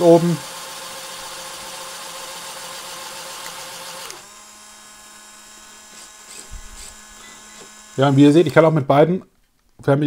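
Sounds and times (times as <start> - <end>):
small electric motors whirring: 0.0 - 8.7.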